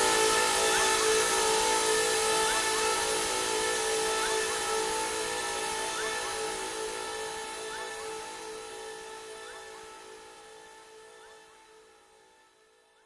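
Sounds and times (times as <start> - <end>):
droning steady tones: 0.0 - 11.8.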